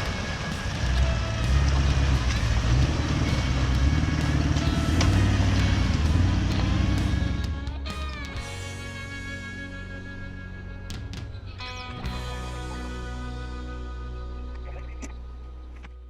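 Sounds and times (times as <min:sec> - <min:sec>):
background music: 0:00.0 - 0:16.0
vehicle engine rumbling: 0:00.0 - 0:16.0.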